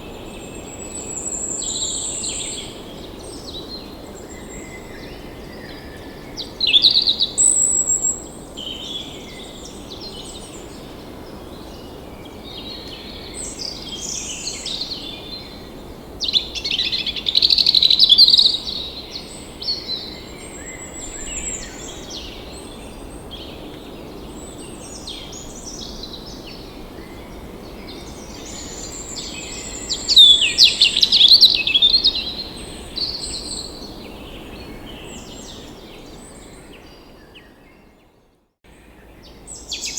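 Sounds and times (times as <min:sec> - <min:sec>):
songbirds warbling: 0:00.0 - 0:37.9.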